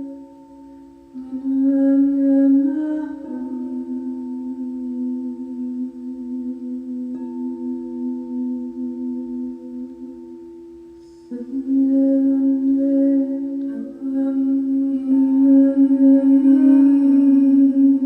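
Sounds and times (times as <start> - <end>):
singing bowls ringing: 0.0 - 18.0.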